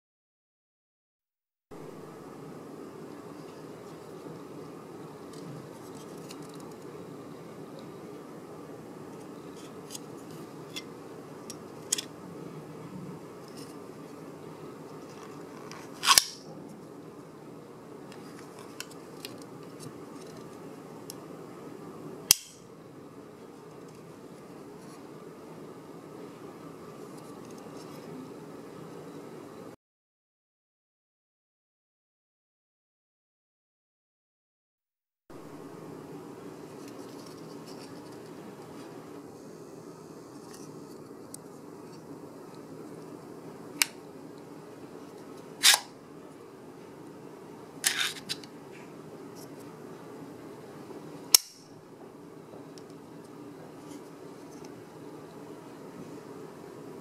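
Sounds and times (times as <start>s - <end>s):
steady low hum: 1.7s - 29.8s, 35.3s - 57.0s.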